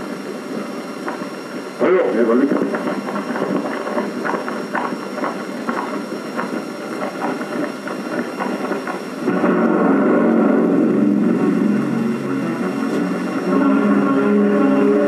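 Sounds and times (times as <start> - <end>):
crackly film soundtrack hiss: 0.0 - 15.0
low steady sound: 0.0 - 15.0.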